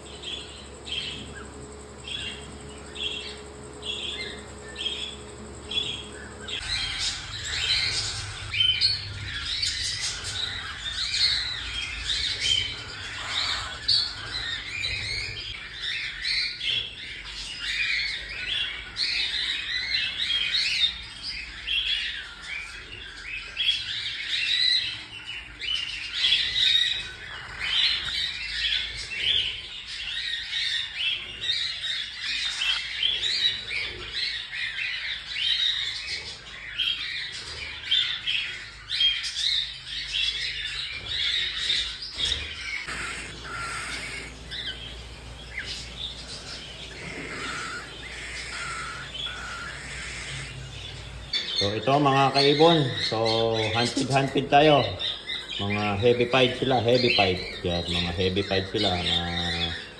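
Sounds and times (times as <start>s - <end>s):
bird chicks squawking and chirping: 0.0s - 59.9s.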